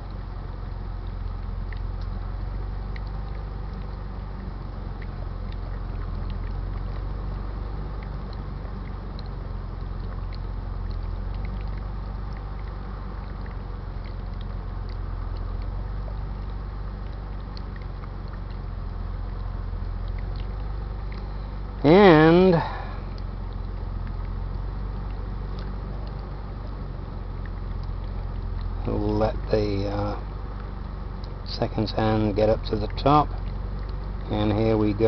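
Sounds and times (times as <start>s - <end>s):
faint small ticks: 0.0s - 21.9s, 22.5s - 35.0s
low mechanical hum: 0.0s - 35.0s.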